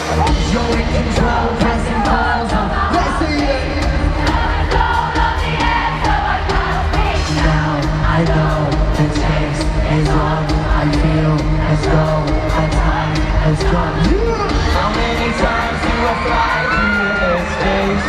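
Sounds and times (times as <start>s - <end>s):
crowd screaming and cheering: 0.0s - 18.0s
pop song with drum beat: 0.0s - 18.0s.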